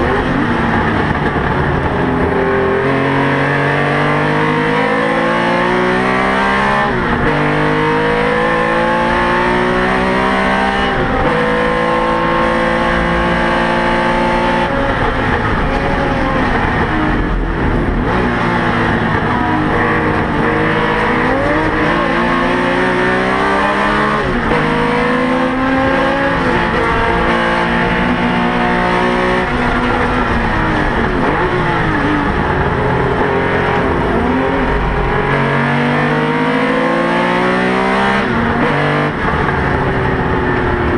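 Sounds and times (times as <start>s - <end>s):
racing engine revving: 0.0s - 40.9s.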